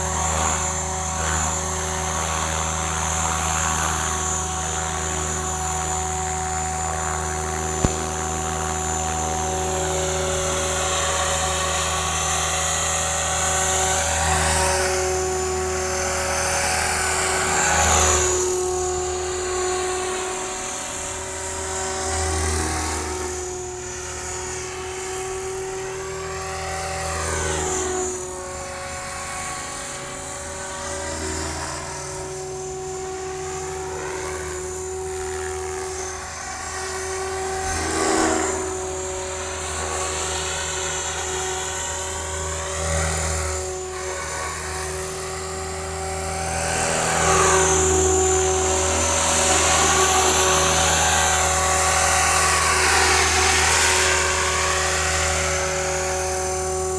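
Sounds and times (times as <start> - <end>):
model helicopter rotors whining: 0.0 - 56.9.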